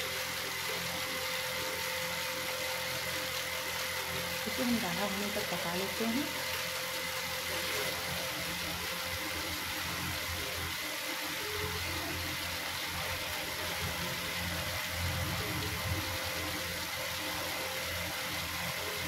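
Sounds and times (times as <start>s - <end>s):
cooling fan humming: 0.0s - 19.0s.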